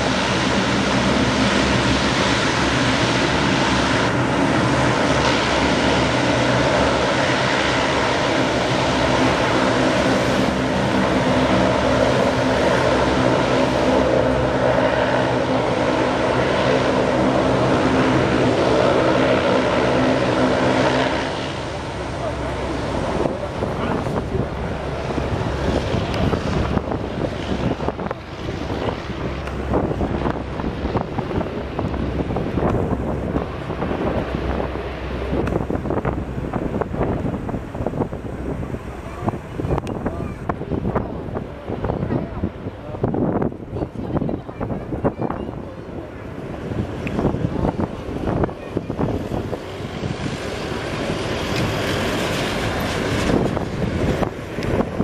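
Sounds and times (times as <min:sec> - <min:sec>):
turboprop engines droning: 0:00.0 - 0:55.0
wind buffeting microphone: 0:00.0 - 0:55.0.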